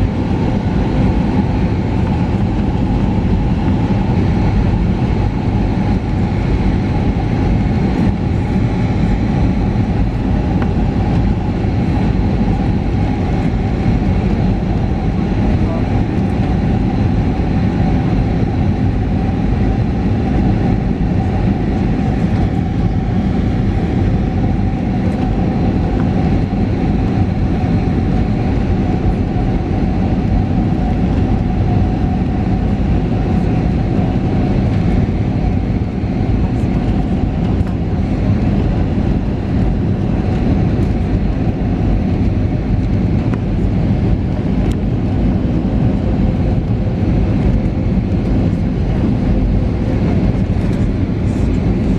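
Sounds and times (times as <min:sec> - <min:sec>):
aircraft cabin engine rumble: 0:00.0 - 0:51.9
constant whine: 0:00.0 - 0:51.9.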